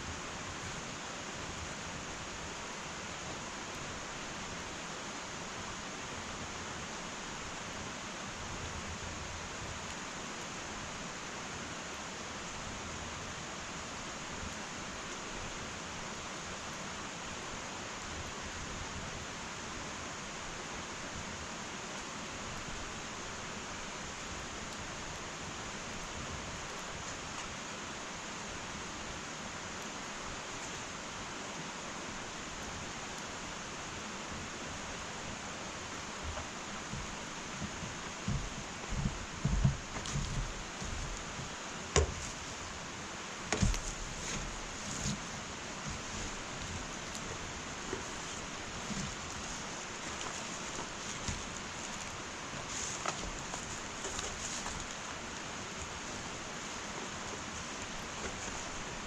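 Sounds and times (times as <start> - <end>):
wood fire hissing: 0.0 - 59.0.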